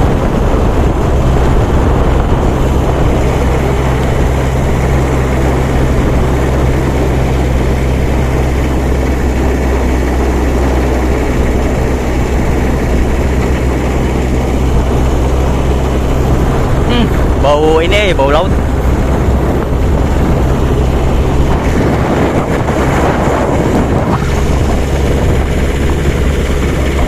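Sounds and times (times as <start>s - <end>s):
car engine drone: 0.0s - 27.0s
steady rushing noise: 0.0s - 27.0s.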